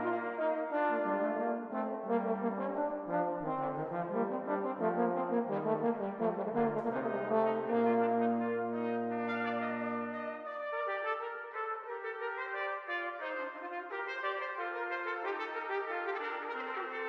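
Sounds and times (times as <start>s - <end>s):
brass quartet playing: 0.0s - 17.0s.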